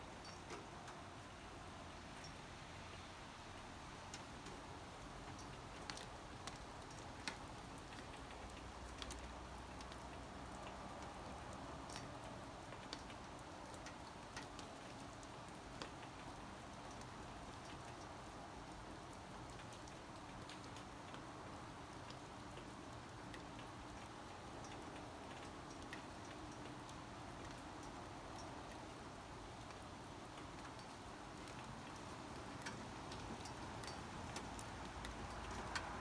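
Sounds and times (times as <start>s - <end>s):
light rain hiss: 0.0s - 36.0s
raindrops ticking on hard surface: 0.1s - 1.6s, 3.6s - 36.0s.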